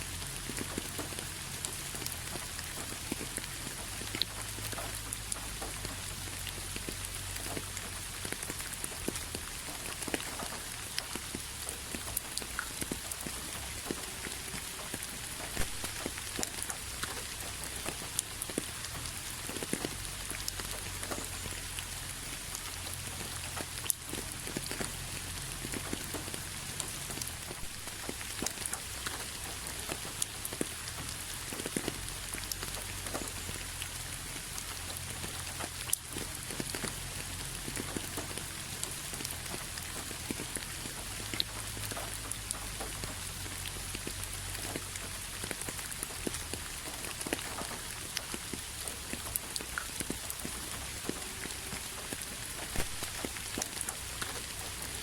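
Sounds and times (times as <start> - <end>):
rain falling: 0.0 - 55.0
raindrops ticking: 0.0 - 55.0.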